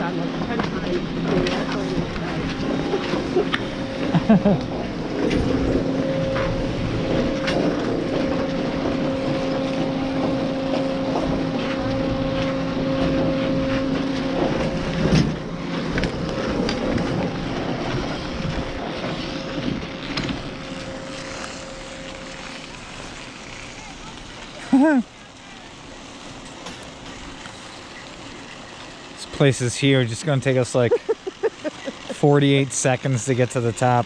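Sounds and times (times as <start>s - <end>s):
chairlift machinery humming: 0.0s - 34.0s
skis scraping on packed snow: 0.1s - 34.0s.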